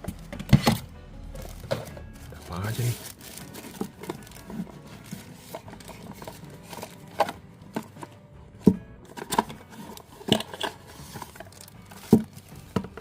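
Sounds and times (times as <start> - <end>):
box packaging clicks and knocks: 0.0 - 2.2, 3.0 - 13.0.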